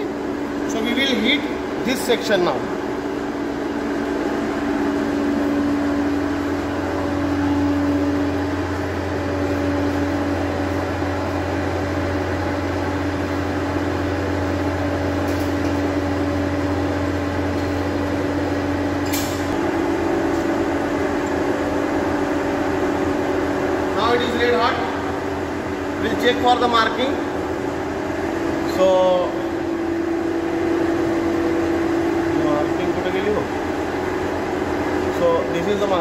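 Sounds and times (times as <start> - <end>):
air blower humming: 0.0 - 36.0.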